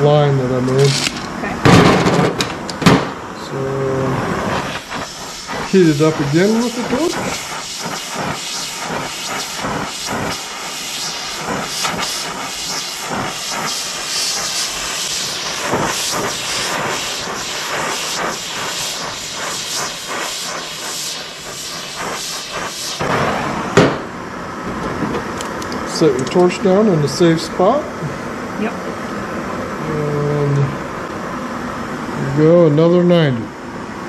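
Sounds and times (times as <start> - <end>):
torch flame hissing: 0.0 - 34.0.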